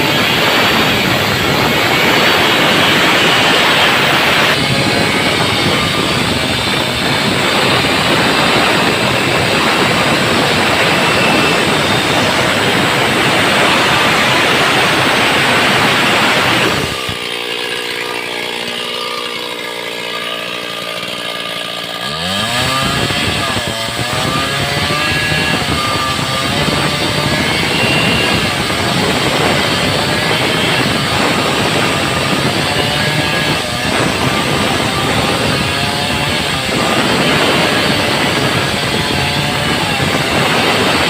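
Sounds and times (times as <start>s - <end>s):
chainsaw running: 0.0s - 41.0s.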